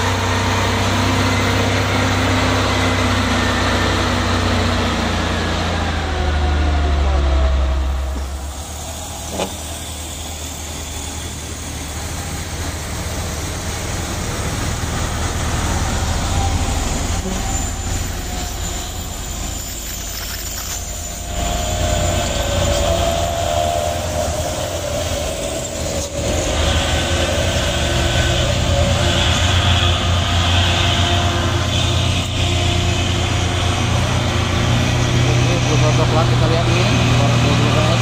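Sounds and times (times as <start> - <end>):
diesel truck engines passing: 0.0 - 38.0.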